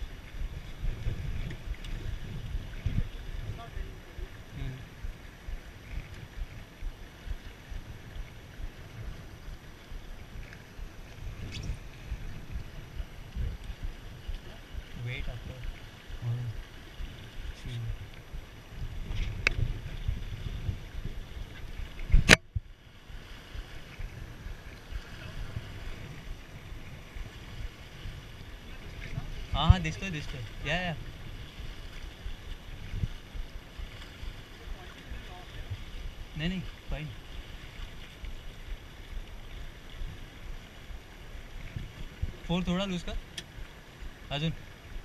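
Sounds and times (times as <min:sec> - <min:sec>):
water rushing past hull: 0:00.0 - 0:45.0
wind buffeting microphone: 0:00.0 - 0:45.0.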